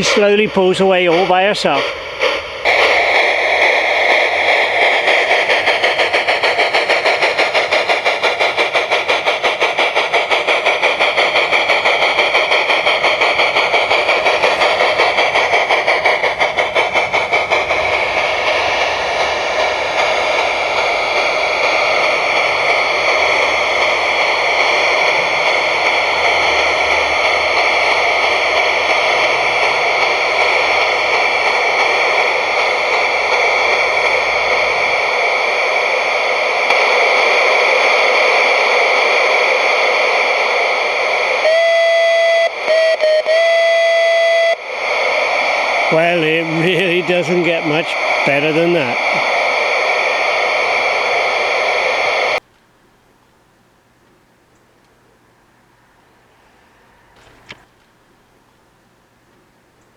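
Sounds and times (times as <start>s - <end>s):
model steam locomotive chuffing: 0.0s - 52.5s, 55.0s - 58.7s.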